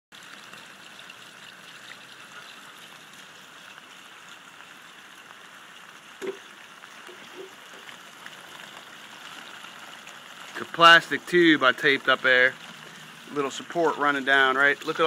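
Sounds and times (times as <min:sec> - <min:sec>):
storm water flowing: 0:01.6 - 0:15.0.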